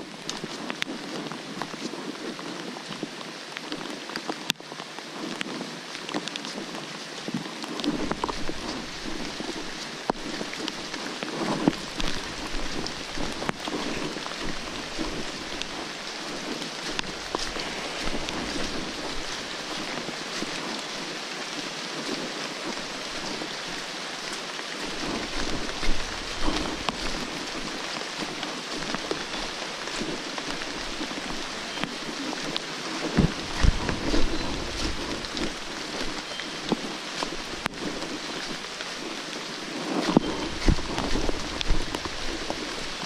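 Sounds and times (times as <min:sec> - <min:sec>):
footsteps on wet trail: 0:00.0 - 0:43.0
rain falling on leaves: 0:00.0 - 0:43.0.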